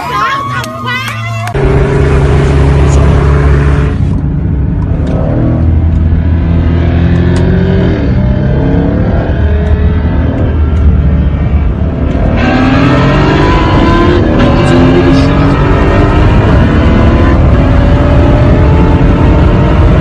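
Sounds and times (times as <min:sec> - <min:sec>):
brighter car engine: 0:00.0 - 0:20.0
car engine revving: 0:01.4 - 0:20.0.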